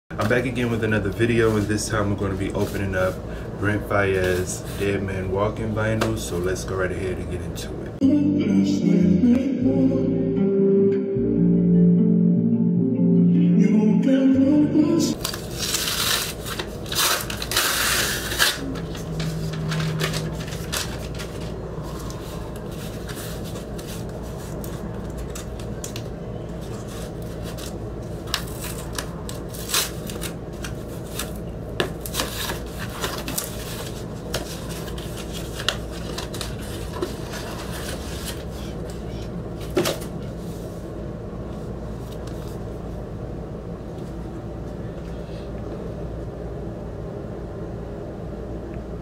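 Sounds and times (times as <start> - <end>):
steady low hum: 0.1 - 49.0.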